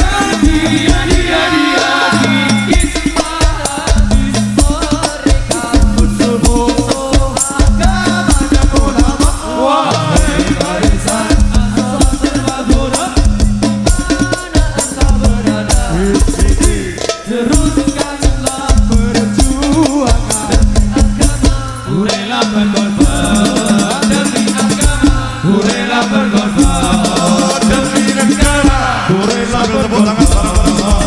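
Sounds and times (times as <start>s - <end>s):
hand percussion: 0.0s - 31.0s
heavy bass beats: 0.0s - 31.0s.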